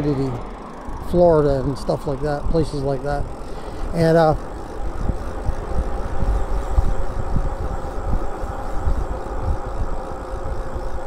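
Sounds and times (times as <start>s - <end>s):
faint steady whine: 0.0s - 11.0s
wind buffeting the microphone: 0.0s - 11.0s.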